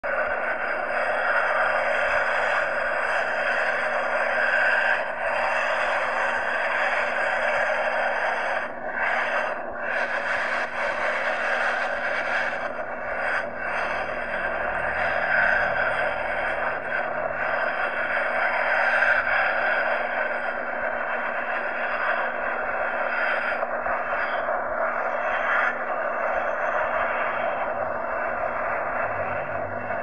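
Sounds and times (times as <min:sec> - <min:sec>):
distant jet engines roaring: 0:00.0 - 0:30.0.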